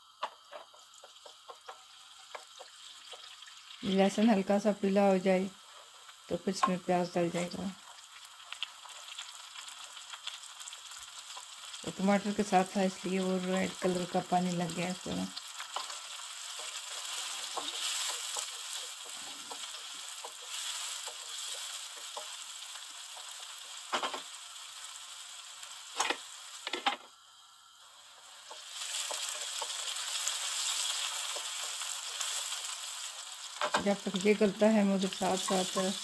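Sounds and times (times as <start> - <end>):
onions sizzling in hot oil: 0.0 - 36.0.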